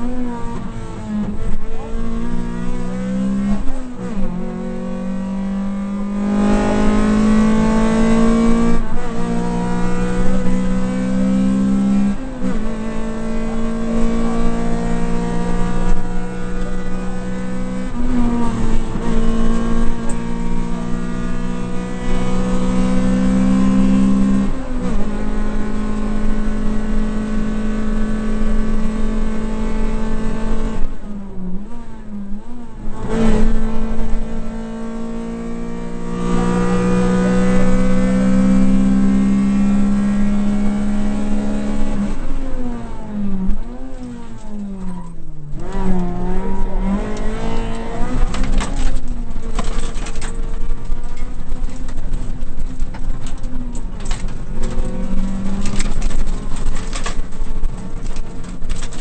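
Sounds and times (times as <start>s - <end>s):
rally car engine at full throttle: 0.0s - 59.0s.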